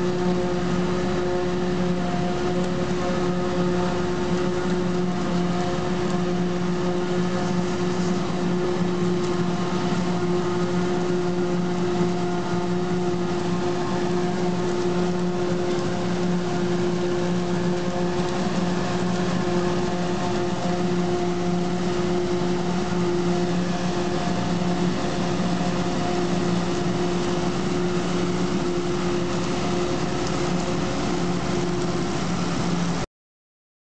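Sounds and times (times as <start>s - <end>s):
forage harvester drone: 0.0s - 33.1s.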